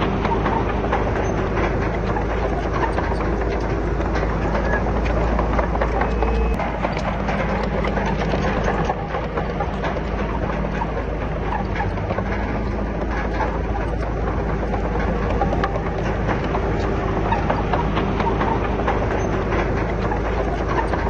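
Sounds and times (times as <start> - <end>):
bulldozer diesel engine running: 0.0 - 21.0
metallic clatter of tracks: 0.0 - 21.0.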